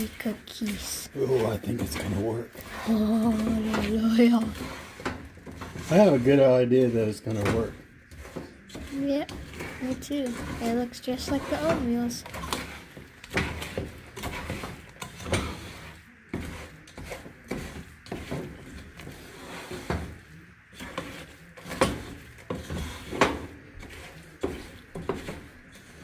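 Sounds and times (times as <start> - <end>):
spatula scraping a pot: 0.0 - 26.0.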